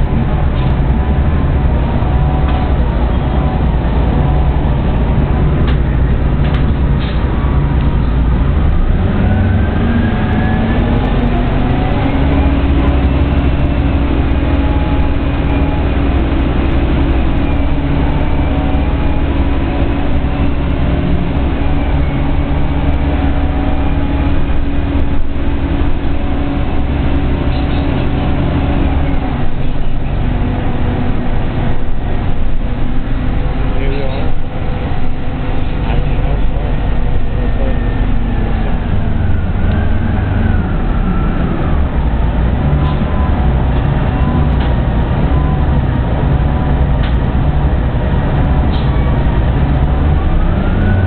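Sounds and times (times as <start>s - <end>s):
bus engine hum: 0.0s - 51.0s
drivetrain whine: 0.0s - 51.0s.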